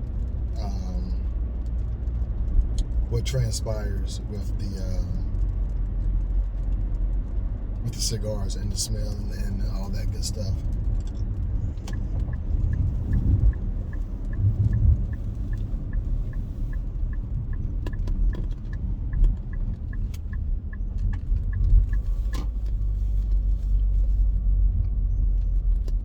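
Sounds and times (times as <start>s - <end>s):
car road and engine rumble: 0.0s - 26.0s
turn signal ticking: 0.0s - 26.0s.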